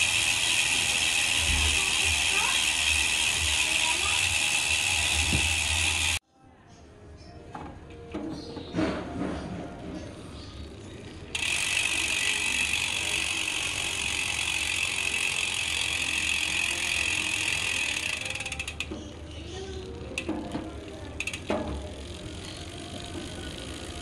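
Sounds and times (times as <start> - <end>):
bicycle hub ratchet buzzing: 0.0 - 6.2, 10.6 - 24.0.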